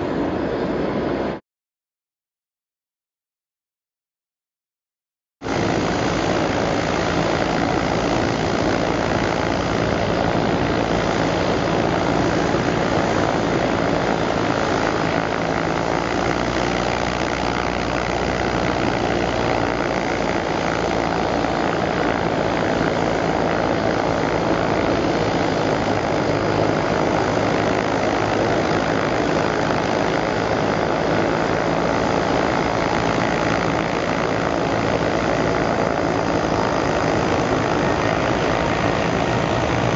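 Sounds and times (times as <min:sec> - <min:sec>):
jet engines at high power: 0:00.0 - 0:01.4, 0:05.4 - 0:39.9
low hum: 0:05.4 - 0:39.9.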